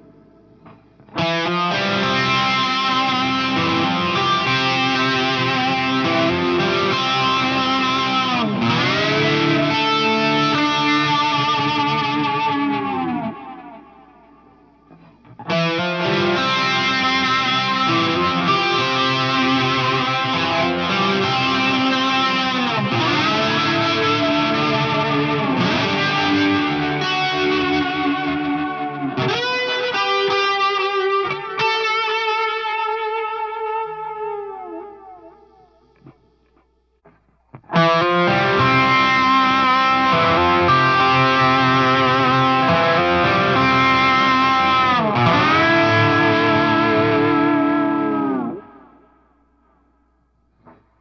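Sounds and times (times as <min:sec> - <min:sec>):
overdriven electric guitar chords: 0:00.0 - 0:50.9.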